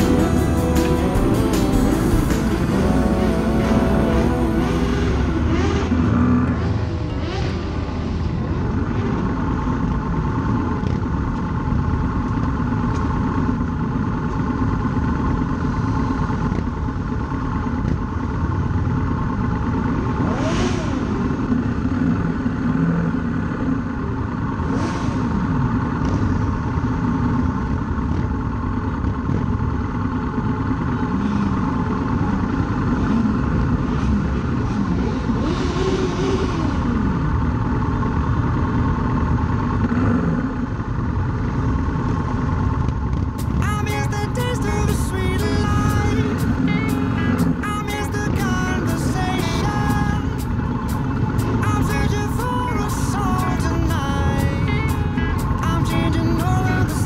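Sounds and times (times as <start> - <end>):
motorcycle engine running: 0.0 - 57.0
motorcycles revving: 0.0 - 57.0.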